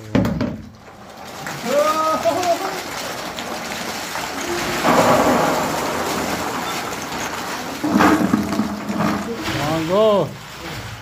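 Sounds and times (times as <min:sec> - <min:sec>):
plastic balls clattering: 0:00.0 - 0:10.6.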